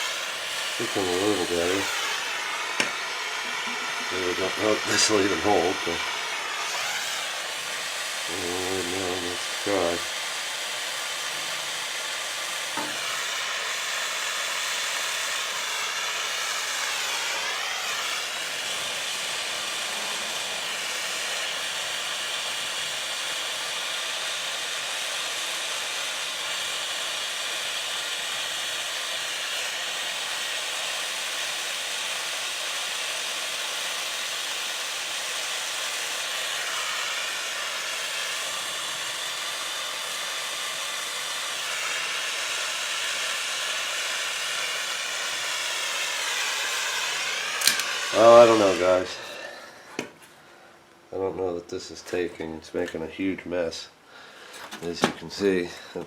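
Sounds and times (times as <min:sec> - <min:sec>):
gas torch flame hissing: 0:00.0 - 0:50.3, 0:51.1 - 0:56.0.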